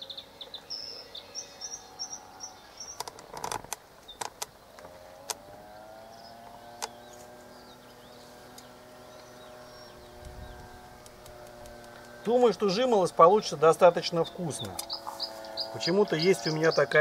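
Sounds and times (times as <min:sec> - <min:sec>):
birds chirping: 0:00.0 - 0:17.0
motor hum: 0:00.0 - 0:17.0.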